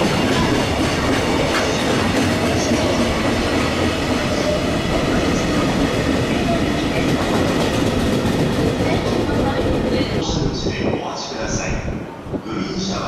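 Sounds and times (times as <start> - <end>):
train wheels rumbling on rail: 0.0 - 12.7.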